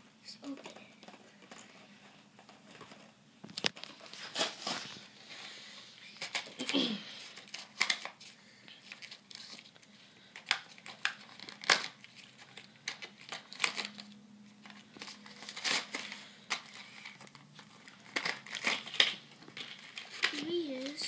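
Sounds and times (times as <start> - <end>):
plastic packaging crinkling and tearing: 0.4 - 21.0.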